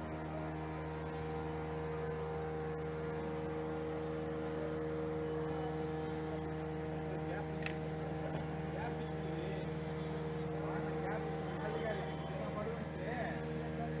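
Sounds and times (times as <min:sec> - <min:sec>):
hum of low tones: 0:00.0 - 0:14.0.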